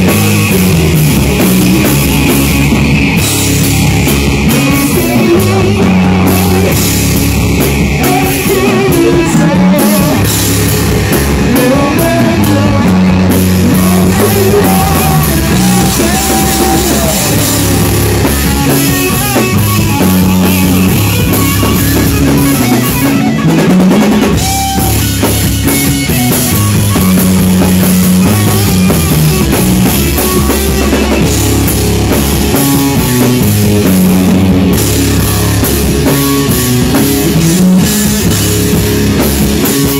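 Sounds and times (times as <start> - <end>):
distorted guitar and bass riffing: 0.0 - 39.9
drum kit: 0.0 - 39.9.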